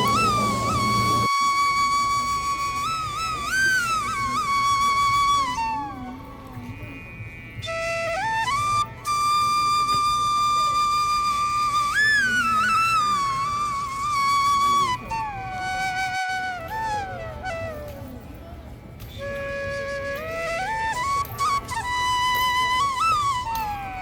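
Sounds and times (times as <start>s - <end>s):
slow flute melody: 0.0s - 24.0s.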